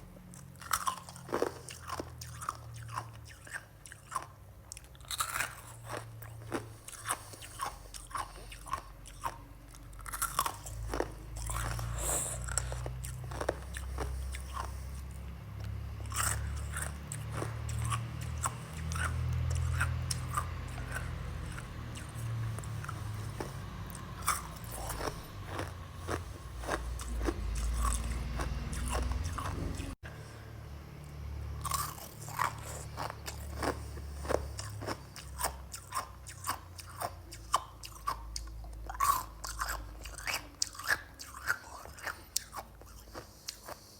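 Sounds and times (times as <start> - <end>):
crunching and chewing frost: 0.0 - 30.5, 31.1 - 43.9.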